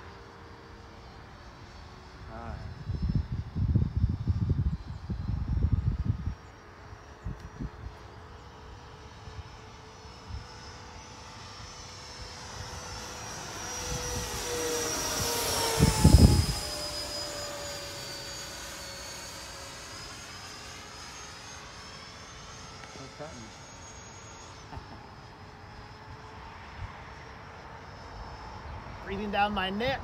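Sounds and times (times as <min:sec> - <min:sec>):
model jet turbines whining: 0:00.0 - 0:30.0.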